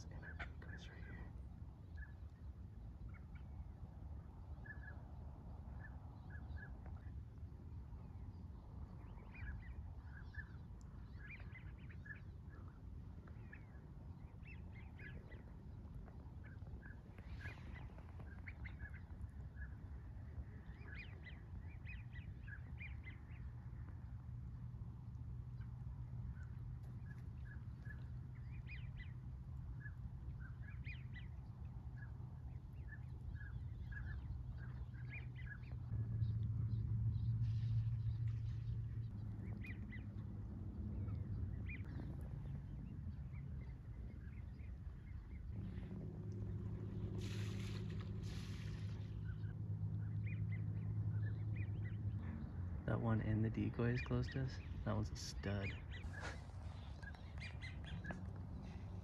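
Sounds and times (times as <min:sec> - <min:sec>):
low rumble: 0:00.0 - 0:59.0
steady low hum: 0:00.0 - 0:59.0
ducks calling: 0:08.9 - 0:59.0.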